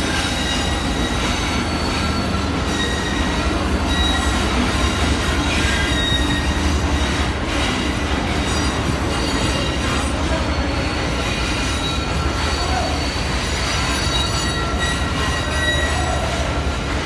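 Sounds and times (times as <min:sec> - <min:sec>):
faint high wheel squeal: 0:00.0 - 0:17.0
train wheels rumbling on rail: 0:00.0 - 0:17.0.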